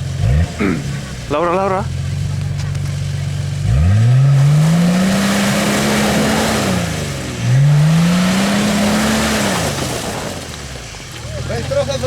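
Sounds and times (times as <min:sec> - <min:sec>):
off-road vehicle engine revving: 0:00.0 - 0:12.0
wheels digging into mud and water: 0:02.3 - 0:12.0.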